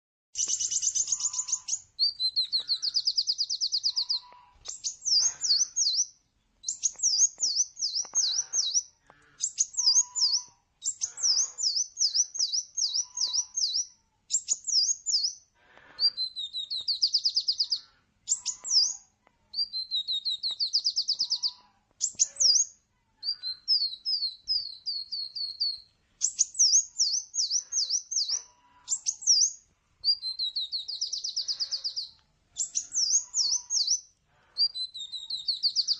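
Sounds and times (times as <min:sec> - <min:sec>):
bird singing high rapid song: 0:00.4 - 0:35.9.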